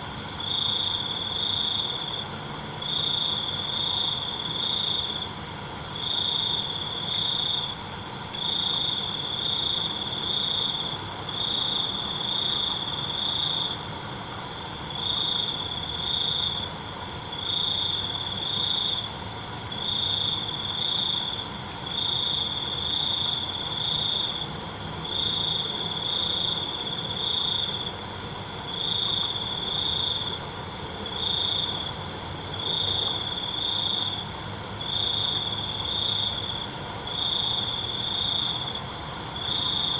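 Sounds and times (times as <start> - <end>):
cricket trilling in pulsing bursts: 0.0 - 39.9
high-pitched insect chorus: 0.0 - 39.9.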